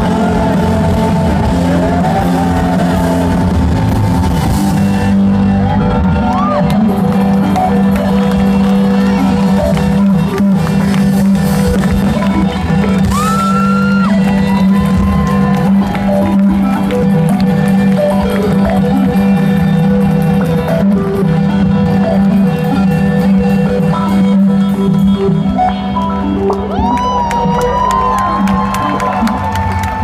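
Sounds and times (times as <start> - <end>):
live rock band: 0.0 - 30.0.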